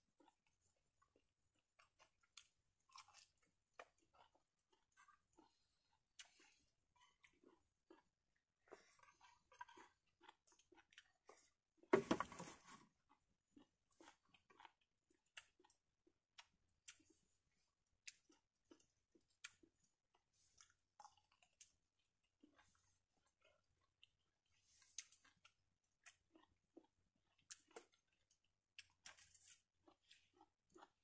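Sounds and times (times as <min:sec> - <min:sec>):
person chewing: 0:00.1 - 0:31.0.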